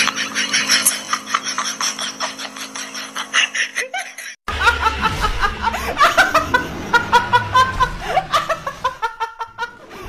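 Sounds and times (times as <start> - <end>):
high-pitched laughter: 0.0 - 9.9.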